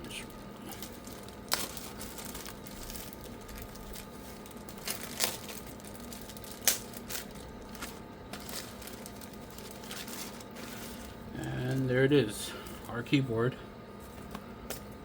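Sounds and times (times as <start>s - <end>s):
plastic packaging crinkling: 0.3s - 13.0s.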